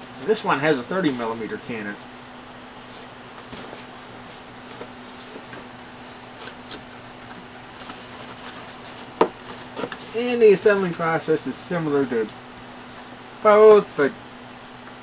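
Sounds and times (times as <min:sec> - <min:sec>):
cardboard rustling and scraping: 0:00.3 - 0:01.9, 0:02.8 - 0:11.2, 0:11.9 - 0:14.2.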